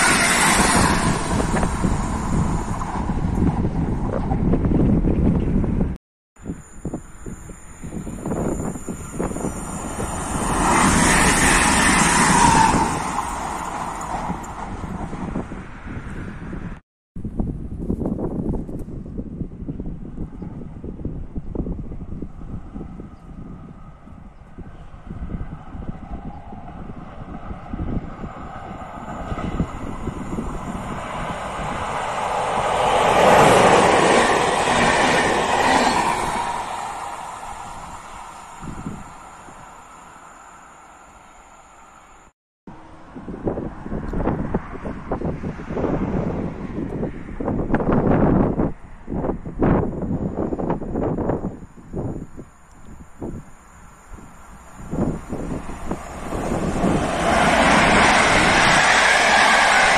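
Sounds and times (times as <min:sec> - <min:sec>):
diesel locomotive engine: 0:00.0 - 0:16.8, 0:19.6 - 0:59.9
train passing at speed: 0:00.0 - 0:16.8, 0:19.6 - 0:59.9.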